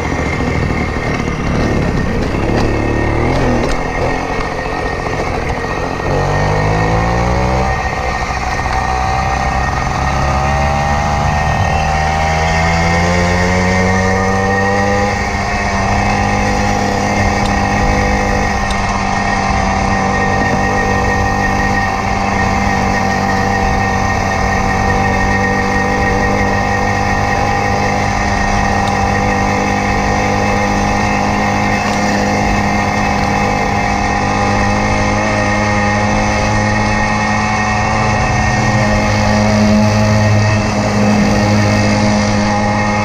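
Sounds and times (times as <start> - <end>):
moped two-stroke engine running: 0.0 - 43.0.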